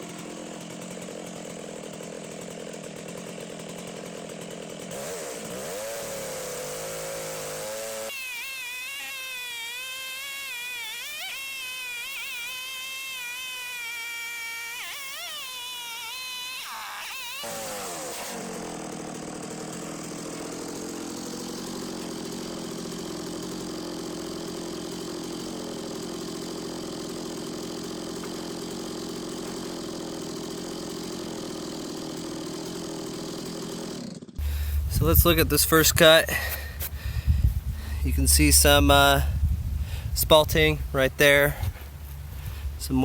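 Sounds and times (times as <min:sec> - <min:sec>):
chainsaw cutting at full throttle: 0:00.0 - 0:43.0
chainsaw idling: 0:00.0 - 0:43.0.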